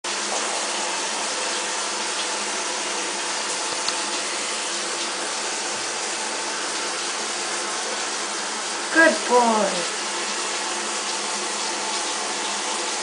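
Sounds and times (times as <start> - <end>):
water running from a tap: 0.1 - 13.0.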